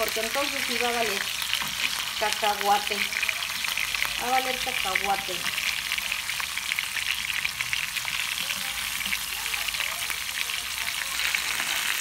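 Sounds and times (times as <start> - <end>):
meat sizzling in frying pan: 0.0 - 12.0.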